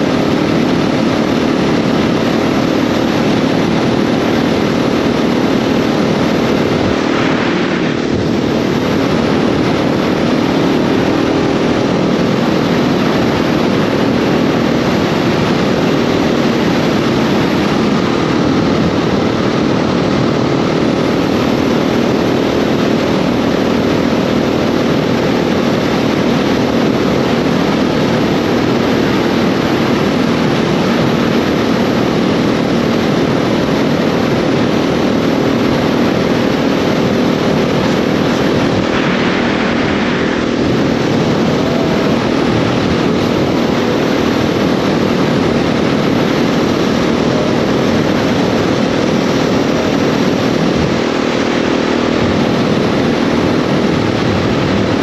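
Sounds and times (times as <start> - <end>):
motorcycle engine running: 0.0 - 55.0
wind rush over microphone: 0.0 - 55.0.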